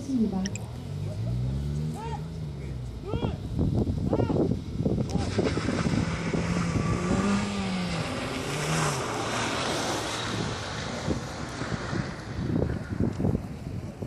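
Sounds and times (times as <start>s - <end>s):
car engine revving: 0.0s - 13.1s.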